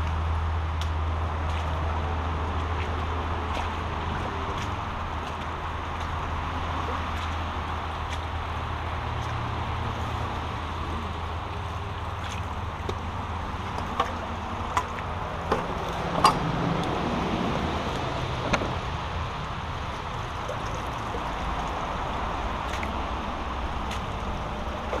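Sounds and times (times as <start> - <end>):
brook water flowing: 0.0 - 25.0.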